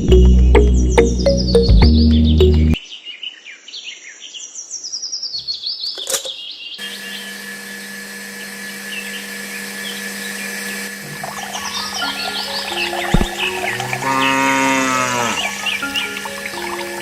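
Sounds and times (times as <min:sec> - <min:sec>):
birds chirping: 0:00.2 - 0:07.4, 0:08.9 - 0:17.0.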